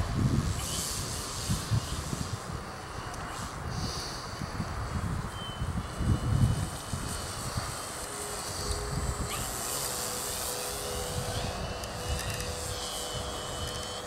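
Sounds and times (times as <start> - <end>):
electric model plane motor whine: 0.0 - 14.0.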